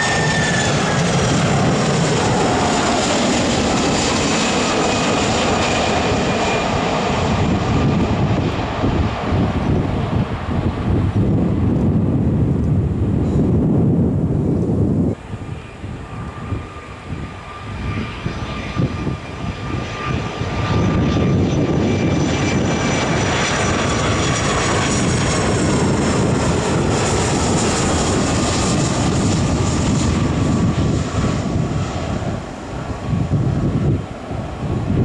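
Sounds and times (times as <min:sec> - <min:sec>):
jet airliner engines whining: 0:00.0 - 0:35.0.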